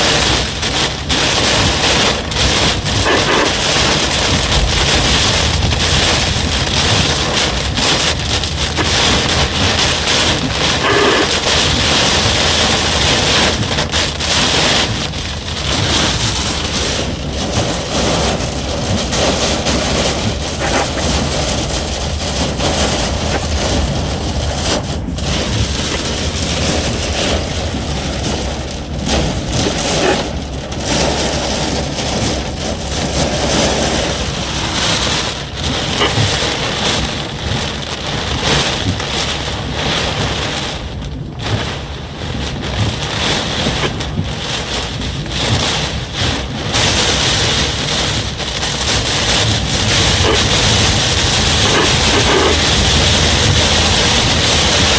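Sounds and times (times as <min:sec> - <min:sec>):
heavy rain: 0:00.0 - 0:54.9
strong wind buffeting microphone: 0:00.0 - 0:54.9.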